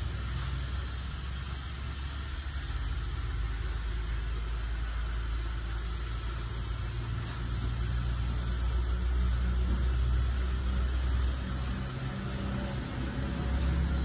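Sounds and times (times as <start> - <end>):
workshop machine humming: 0.0 - 14.0.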